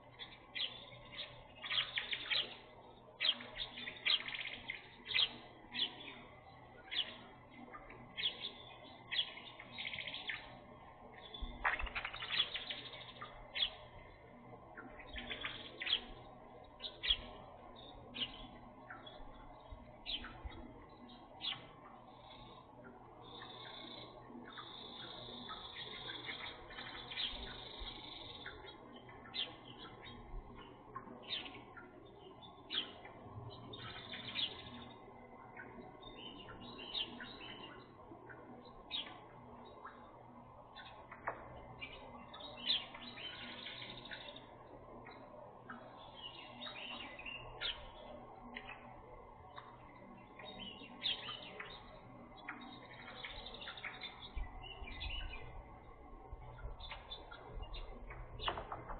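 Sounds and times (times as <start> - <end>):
small birds chirping: 0.0 - 58.9
steady low hiss: 0.0 - 58.9.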